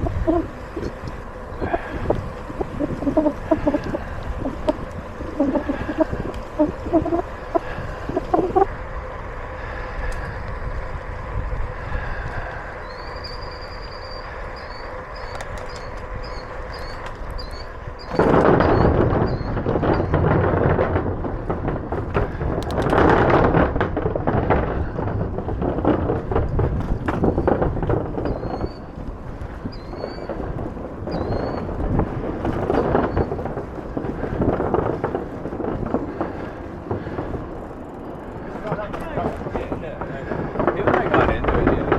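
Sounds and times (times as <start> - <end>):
bicycle rattling on rough surface: 0.0 - 41.9
bicycle tyre noise: 0.0 - 41.9
wind buffeting microphone: 0.0 - 41.9.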